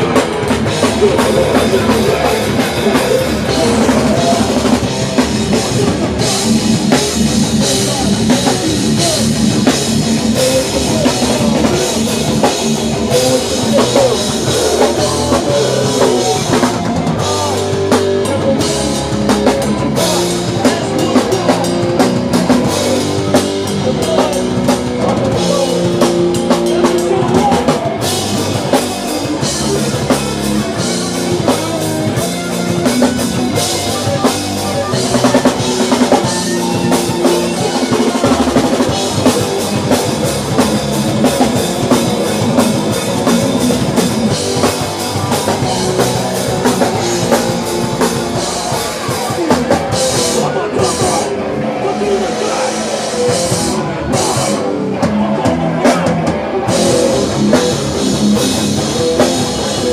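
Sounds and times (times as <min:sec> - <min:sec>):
heavy rock band playing: 0:00.0 - 0:59.9
pounding drum kit: 0:00.0 - 0:59.9.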